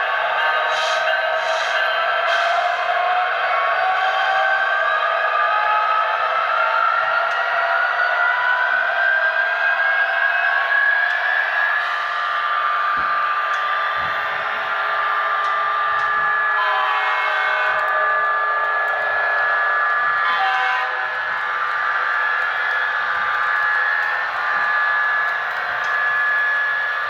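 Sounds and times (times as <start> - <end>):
model train motor whine: 0.0 - 27.0
wheels hissing on rails: 0.0 - 27.0.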